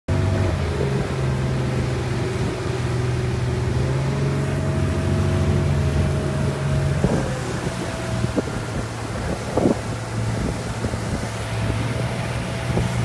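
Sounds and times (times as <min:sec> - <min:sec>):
motorboat engine running: 0:00.1 - 0:13.0
rushing wind: 0:00.1 - 0:13.0
water noise: 0:00.1 - 0:13.0.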